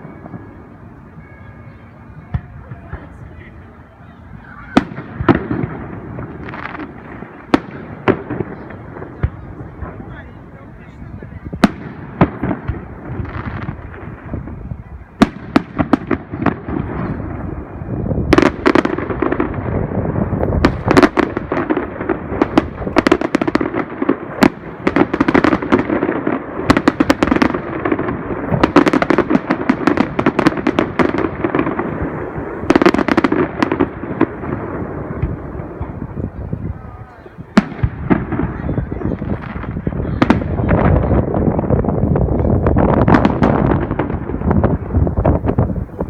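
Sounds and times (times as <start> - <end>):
continuous rumble: 0.0 - 46.0
fireworks bangs and pops: 4.6 - 46.0.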